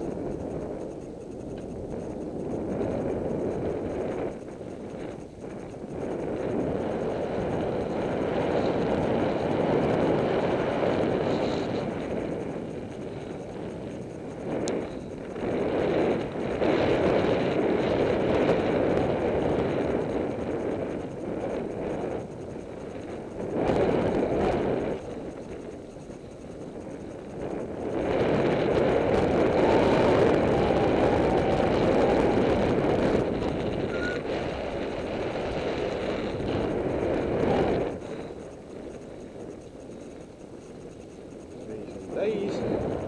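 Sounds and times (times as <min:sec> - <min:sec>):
wind rushing on microphone: 0:00.0 - 0:43.0.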